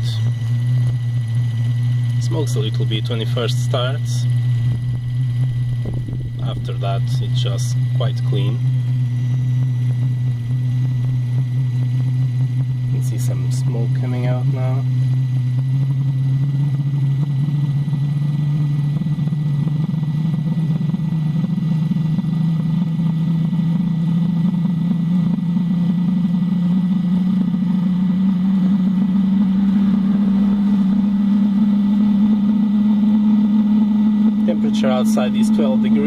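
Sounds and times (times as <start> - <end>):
heater burner and blower drone: 0.0 - 36.0.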